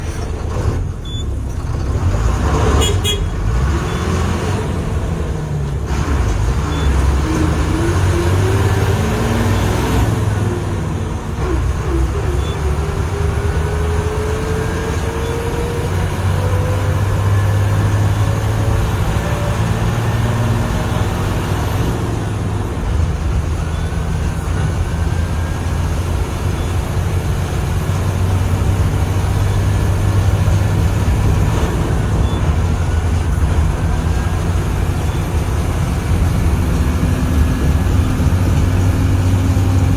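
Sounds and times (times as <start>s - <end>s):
diesel bus engine rumbling: 0.0s - 39.9s.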